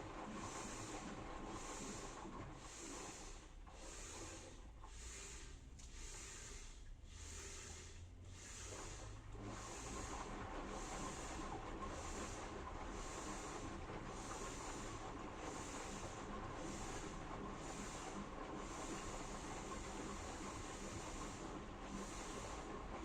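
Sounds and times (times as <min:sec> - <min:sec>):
washing machine hum: 0:00.0 - 0:23.0
washing machine swishing: 0:00.0 - 0:23.0.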